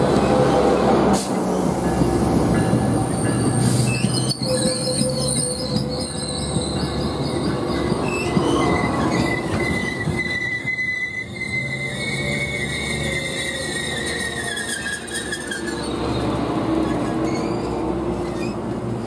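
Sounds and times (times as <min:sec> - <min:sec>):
low rumble of train cars: 0:00.0 - 0:19.0
train wheels squealing: 0:02.6 - 0:18.7.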